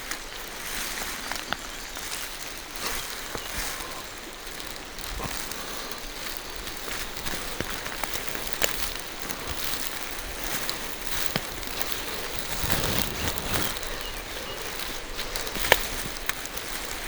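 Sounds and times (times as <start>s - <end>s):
heavy rustle: 0.0s - 17.0s
rain through trees: 0.0s - 17.0s
raindrops ticking: 1.2s - 17.0s.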